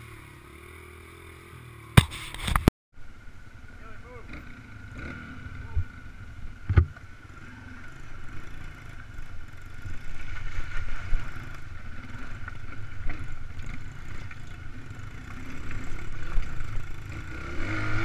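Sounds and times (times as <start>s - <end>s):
mini bike engine running: 3.5s - 18.0s.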